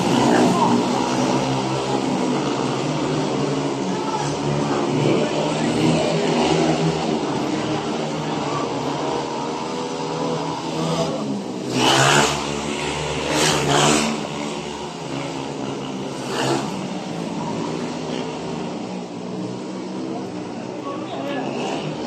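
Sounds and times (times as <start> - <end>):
motorcycle engines racing: 0.0 - 22.0.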